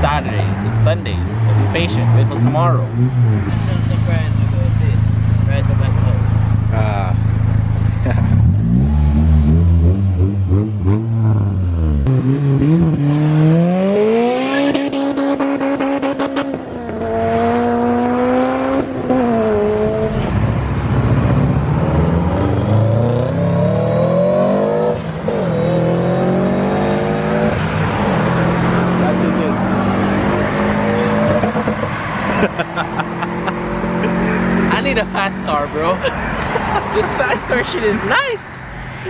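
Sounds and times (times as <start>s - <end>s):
car engine accelerating hard: 0.0s - 38.1s.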